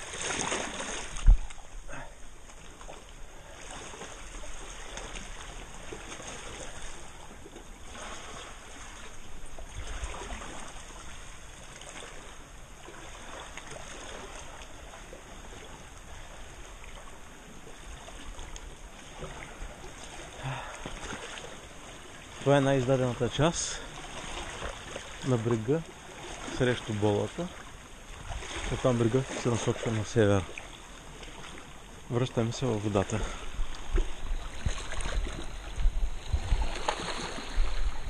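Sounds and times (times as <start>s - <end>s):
seawater sloshing and splashing: 0.0s - 38.0s.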